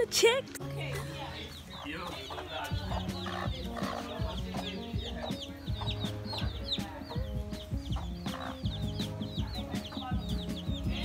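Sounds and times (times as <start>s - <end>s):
chicks peeping: 1.0s - 11.0s
hen clucking: 1.1s - 11.0s.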